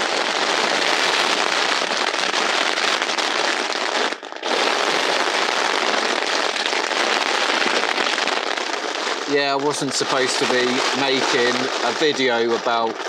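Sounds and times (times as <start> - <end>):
heavy rain on a tent: 0.0 - 13.0.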